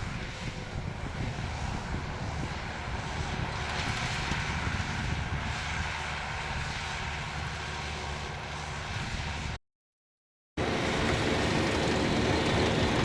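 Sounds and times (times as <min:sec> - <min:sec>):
diesel engine running under load: 0:00.0 - 0:09.6, 0:10.6 - 0:13.0.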